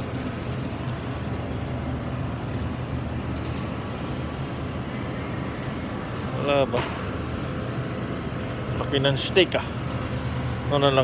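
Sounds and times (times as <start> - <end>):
refrigerated display case hum: 0.0 - 11.0.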